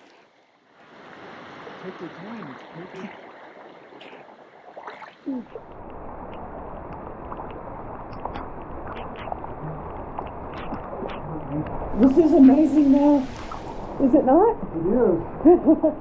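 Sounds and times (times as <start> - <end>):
flowing water rushing: 0.0 - 16.0
water splashing around swimmers: 0.0 - 16.0.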